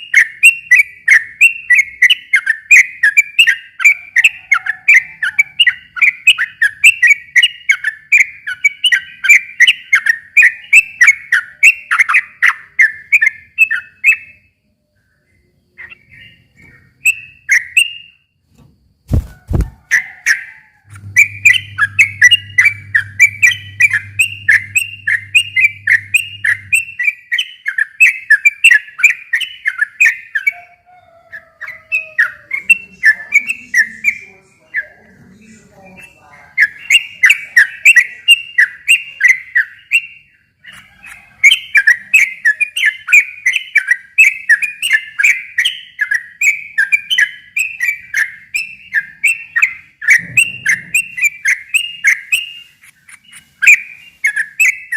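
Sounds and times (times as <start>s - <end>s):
bulbul singing: 0.0s - 18.3s, 19.1s - 54.9s.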